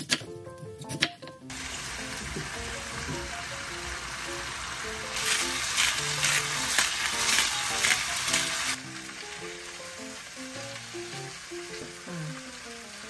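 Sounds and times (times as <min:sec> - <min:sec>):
gentle background music: 0:00.0 - 0:13.0
food sizzling in a frying pan: 0:01.5 - 0:13.0.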